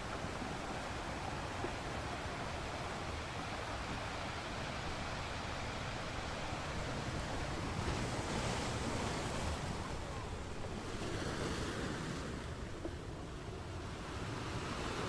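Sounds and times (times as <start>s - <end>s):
ocean waves breaking on shore: 0.0s - 15.0s.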